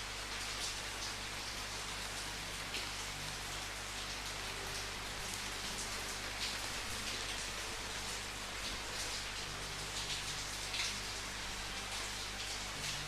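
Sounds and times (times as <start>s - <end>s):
raindrops pattering on a surface: 0.0s - 13.0s.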